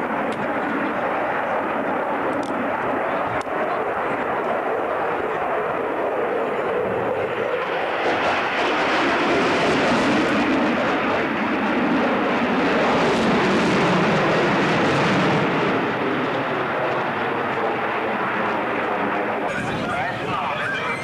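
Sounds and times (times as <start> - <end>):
jet fighter engines roaring: 0.0 - 21.0.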